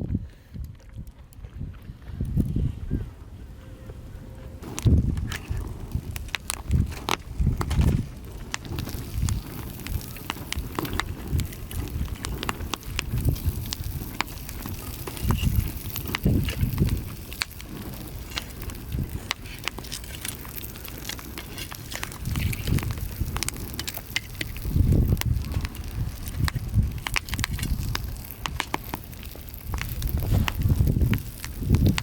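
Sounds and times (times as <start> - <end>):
low rumbles: 1.0 - 32.0
wood fire crackling and popping: 4.6 - 32.0.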